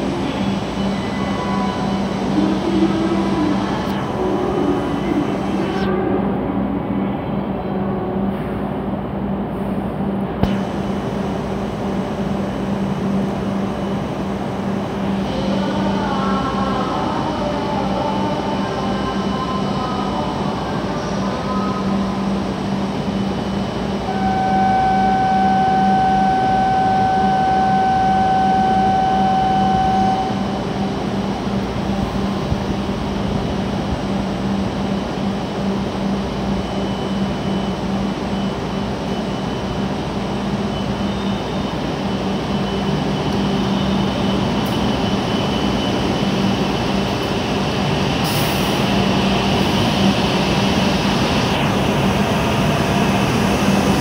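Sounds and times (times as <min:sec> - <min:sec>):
steady single-pitch tone: 0:00.0 - 0:09.0, 0:10.0 - 0:54.0
train equipment humming: 0:00.0 - 0:54.0.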